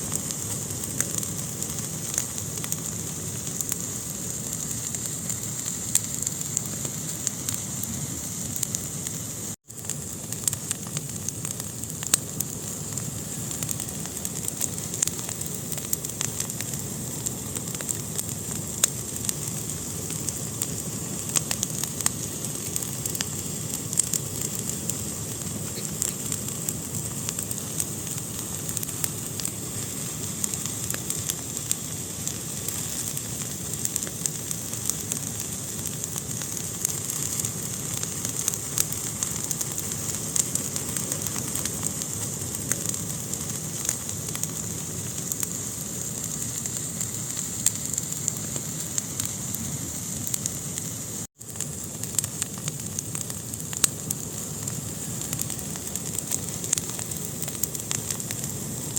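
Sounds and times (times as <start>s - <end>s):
fire crackling and popping: 0.0s - 58.9s
fire hissing: 0.0s - 58.9s.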